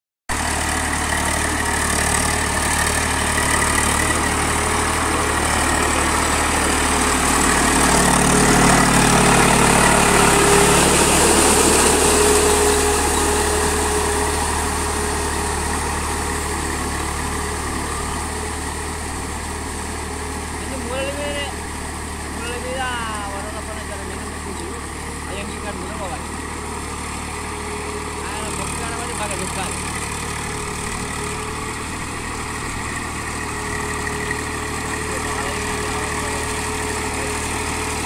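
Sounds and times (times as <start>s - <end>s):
tractor diesel engine running: 0.3s - 38.0s.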